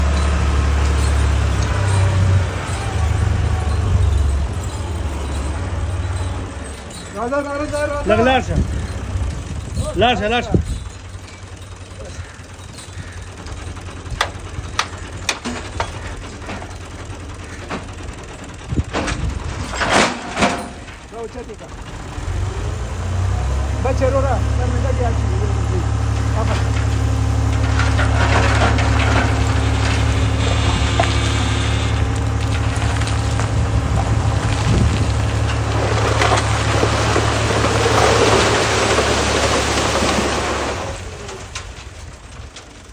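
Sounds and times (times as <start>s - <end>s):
heavy vehicle engine running: 0.0s - 42.9s.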